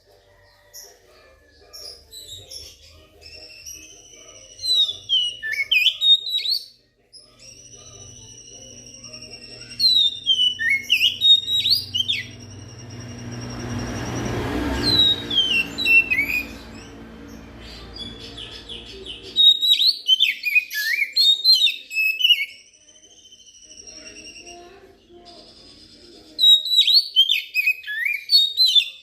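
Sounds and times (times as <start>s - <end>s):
bird singing whistles: 3.2s - 16.9s, 19.3s - 29.0s.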